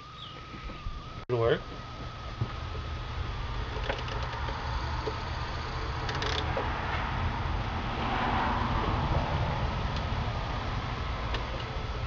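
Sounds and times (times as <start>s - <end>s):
steady low rumble: 0.8s - 12.0s.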